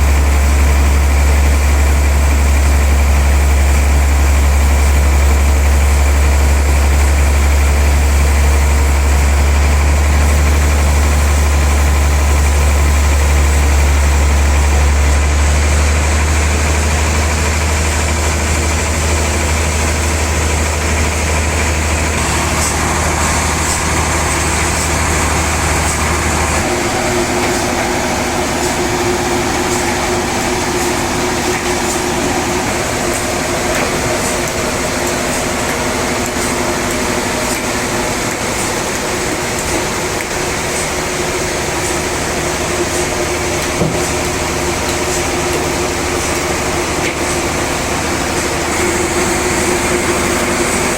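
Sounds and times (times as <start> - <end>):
higher machine hum: 0.0 - 50.9
sawmill machinery deep hum: 0.0 - 50.9.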